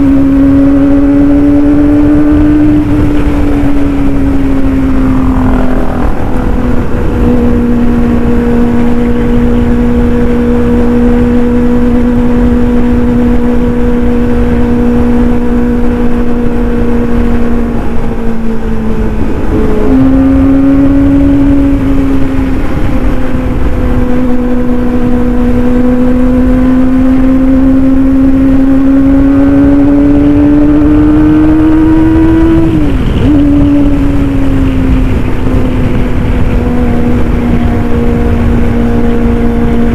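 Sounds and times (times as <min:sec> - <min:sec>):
wind rushing: 0:00.0 - 0:26.2, 0:27.7 - 0:39.9
motorcycle engine at high revs: 0:00.0 - 0:39.9.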